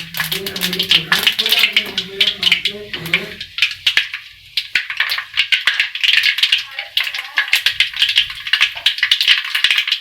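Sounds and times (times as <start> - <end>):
seeds popping in hot oil: 0.0 - 10.0.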